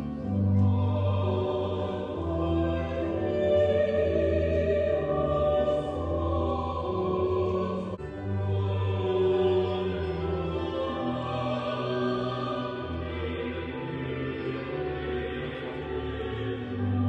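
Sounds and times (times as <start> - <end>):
slow music with sung voices: 0.0 - 17.0.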